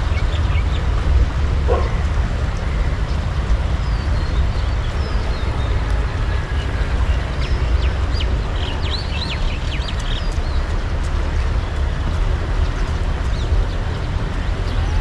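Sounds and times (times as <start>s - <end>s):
birds chirping: 0.0s - 15.0s
low rumble and rushing noise: 0.0s - 15.0s.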